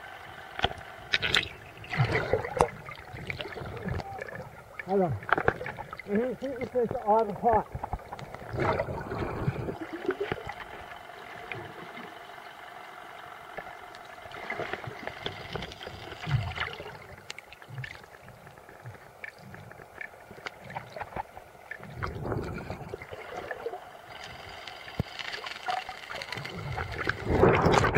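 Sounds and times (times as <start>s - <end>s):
muffled underwater bubbling: 0.0s - 27.9s
underwater clicks and crackles: 0.1s - 27.9s.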